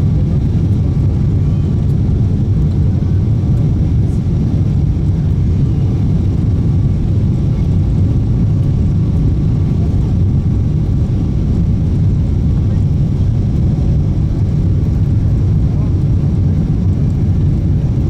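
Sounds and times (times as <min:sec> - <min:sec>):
airliner cabin engine and airflow roar: 0:00.0 - 0:18.0.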